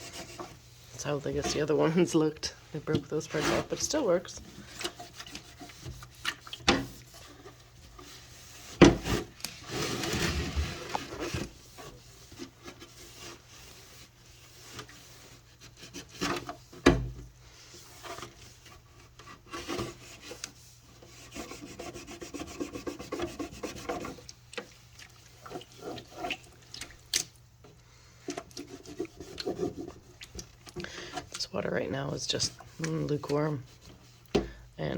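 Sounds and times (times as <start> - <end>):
cloth scrubbing inside fridge: 0.0 - 34.9.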